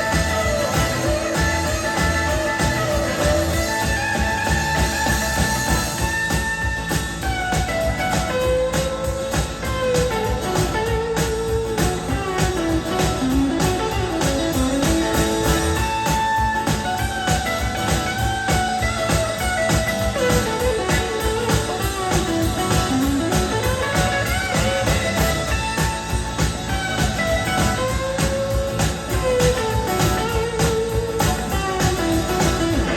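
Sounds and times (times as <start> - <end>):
electric guitar lead with bending notes: 0.0 - 32.9
steady drum beat: 0.0 - 32.9.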